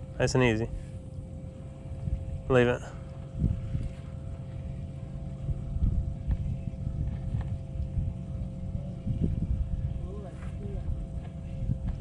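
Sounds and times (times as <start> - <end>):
faint two-note hum: 0.0 - 12.0
wind buffeting microphone: 0.0 - 12.0.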